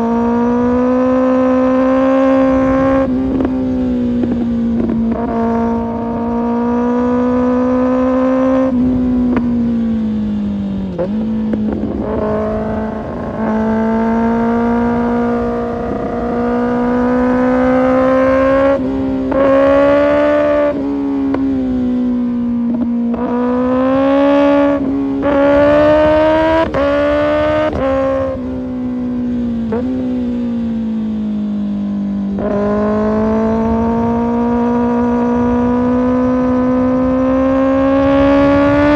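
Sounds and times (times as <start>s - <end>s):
motorcycle engine revving: 0.0s - 38.9s
road and wind rumble: 0.0s - 38.9s.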